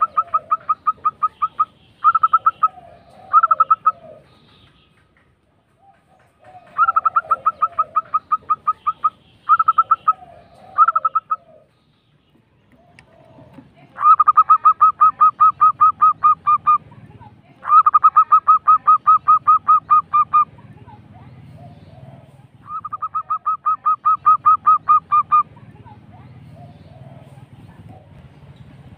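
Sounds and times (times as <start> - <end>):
dove cooing: 0.0 - 4.6, 5.8 - 11.8, 12.6 - 28.6.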